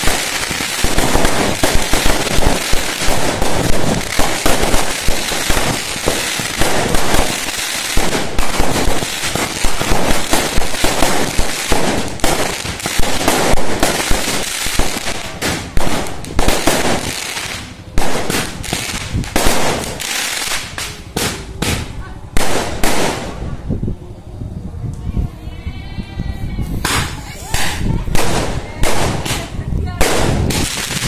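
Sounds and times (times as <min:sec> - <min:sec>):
fireworks crackling and banging: 0:00.0 - 0:23.8, 0:26.7 - 0:31.0.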